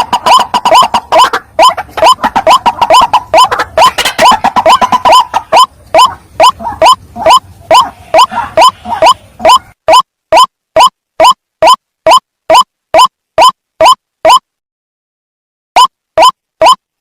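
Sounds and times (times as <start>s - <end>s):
waterhen harsh calls: 0.0s - 14.4s.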